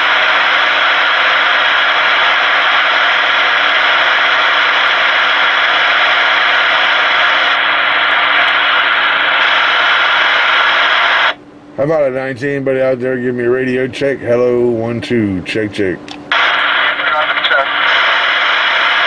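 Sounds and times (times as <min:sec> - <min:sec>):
radio static hiss: 0:00.0 - 0:12.1, 0:14.6 - 0:19.0.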